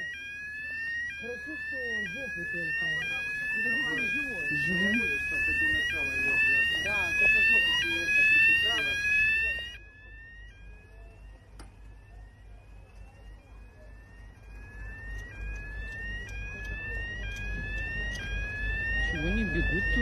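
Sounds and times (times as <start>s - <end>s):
fire engine sirens wailing: 0.0s - 20.0s.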